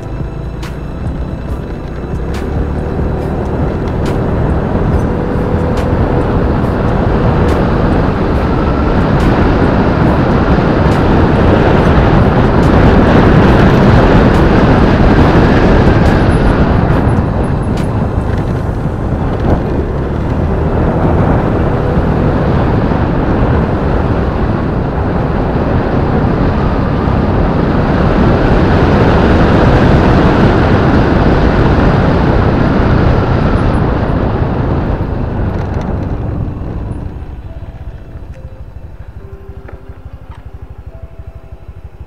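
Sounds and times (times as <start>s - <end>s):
motorcycle engine running: 0.0s - 42.0s
wind rushing over microphone: 0.0s - 42.0s.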